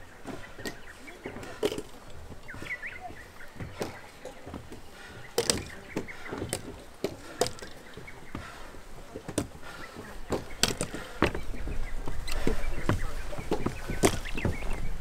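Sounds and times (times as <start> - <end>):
footsteps on mountain trail: 0.0 - 15.0.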